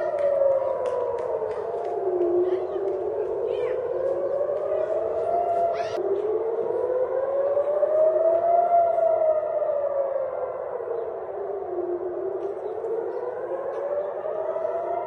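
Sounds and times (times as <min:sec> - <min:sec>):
air-raid sirens wailing: 0:00.0 - 0:15.0.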